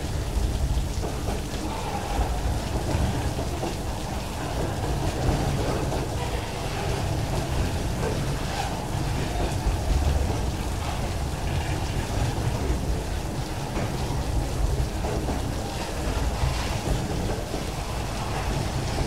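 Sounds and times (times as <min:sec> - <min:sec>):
freight wagons rumbling on rails: 0:00.0 - 0:19.0
heavy rain hissing: 0:00.0 - 0:19.0.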